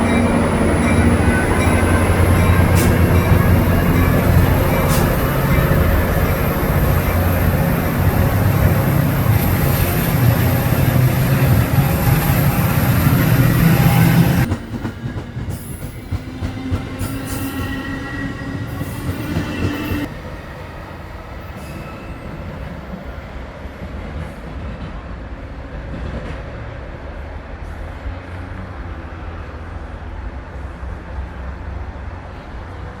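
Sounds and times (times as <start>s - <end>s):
train coaches rolling: 0.0s - 33.0s
train engine drone: 0.0s - 33.0s.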